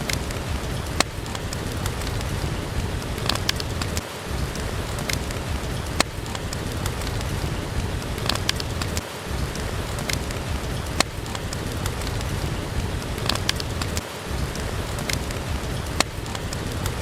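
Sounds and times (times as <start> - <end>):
steady rain: 0.0 - 17.0
wood fire popping and crackling: 0.0 - 17.0.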